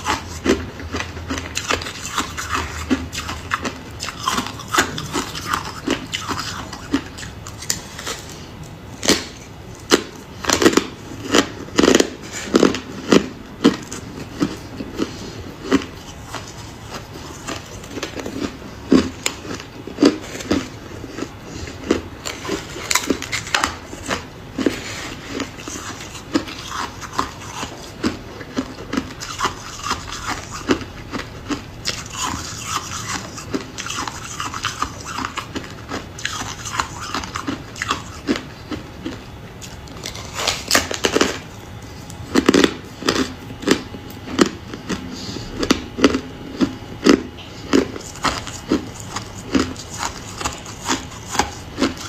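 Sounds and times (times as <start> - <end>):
ice being chewed crunching: 0.0 - 52.0.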